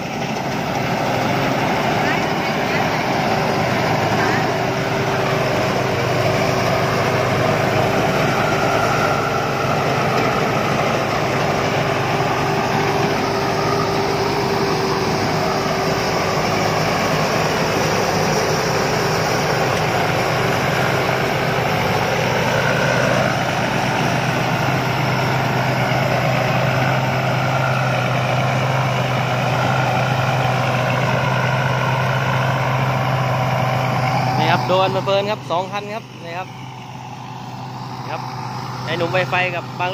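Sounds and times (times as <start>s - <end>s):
combine harvester running: 0.0s - 39.9s
low engine hum: 0.0s - 39.9s.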